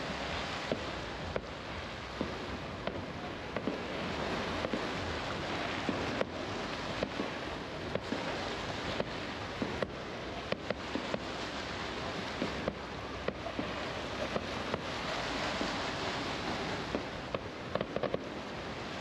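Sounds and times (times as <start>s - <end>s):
fireworks bangs and pops: 0.0s - 1.5s, 2.1s - 19.0s
steady rushing background noise: 0.0s - 19.0s.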